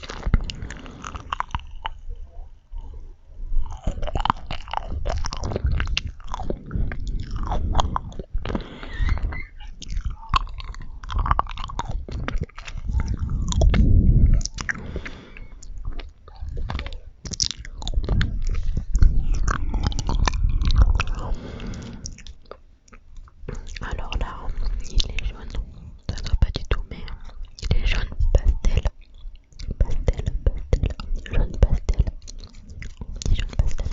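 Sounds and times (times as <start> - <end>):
wet mouth clicks and smacks: 0.0 - 2.0, 3.6 - 33.9
person chewing marshmallows: 0.0 - 33.9.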